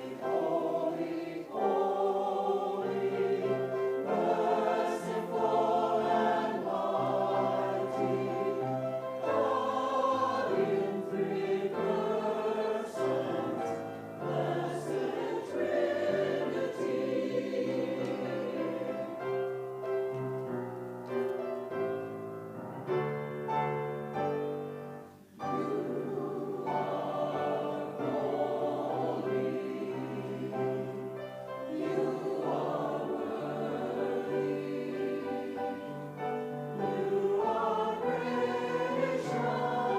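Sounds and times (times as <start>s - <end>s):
choir singing sustained chords: 0.0s - 20.2s, 24.2s - 39.9s.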